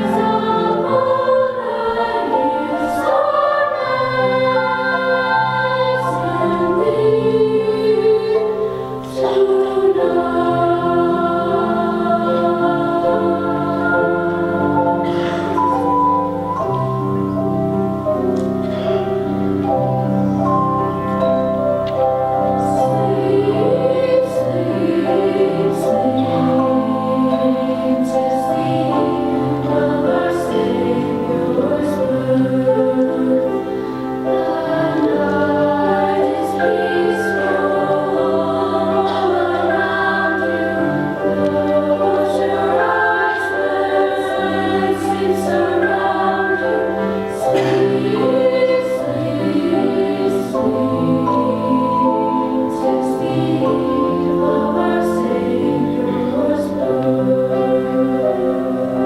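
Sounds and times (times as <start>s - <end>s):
women's chorus singing in harmony: 0.0s - 59.0s.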